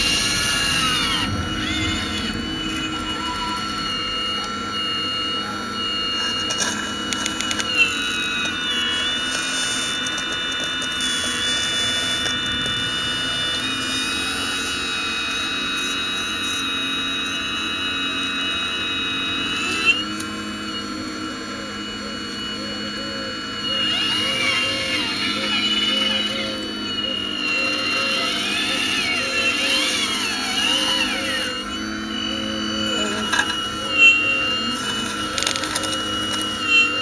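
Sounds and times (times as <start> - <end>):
high-pitched electric motor whine: 0.0 - 37.0.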